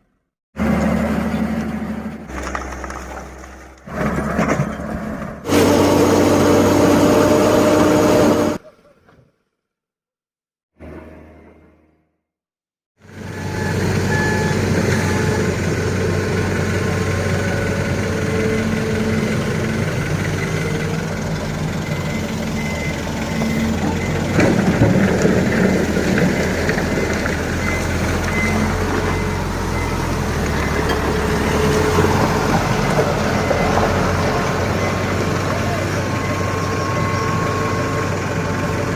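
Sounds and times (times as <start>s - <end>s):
diesel truck engine running: 0.6s - 8.6s, 13.0s - 38.9s.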